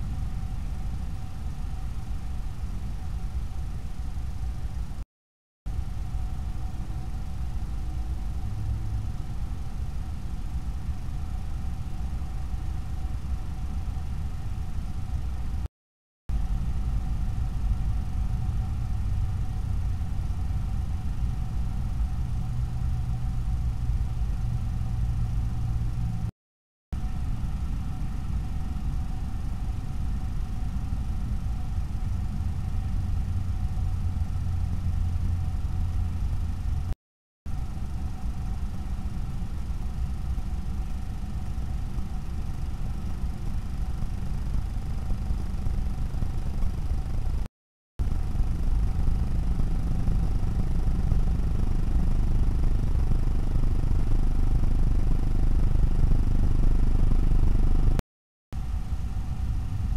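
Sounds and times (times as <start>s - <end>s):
faint high whine and hiss: 0.0s - 5.0s, 5.7s - 15.7s, 16.4s - 26.3s, 27.0s - 36.8s, 37.5s - 57.0s, 58.6s - 59.9s.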